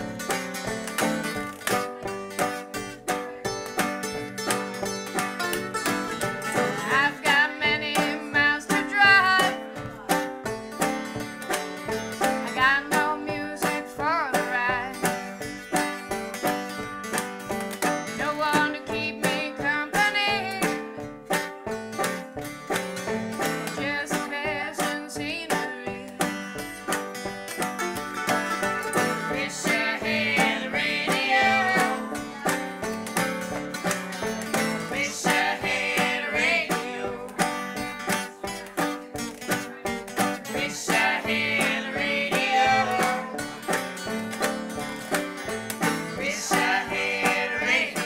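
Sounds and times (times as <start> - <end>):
banjo picking: 0.0 - 48.0
mandolin picking: 0.0 - 48.0
washboard rhythm: 0.0 - 48.0.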